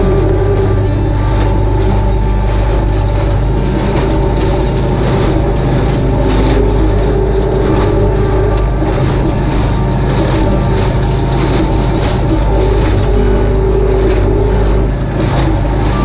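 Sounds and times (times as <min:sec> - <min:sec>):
hay implement working: 0:00.0 - 0:16.0
tractor engine running: 0:00.0 - 0:16.0.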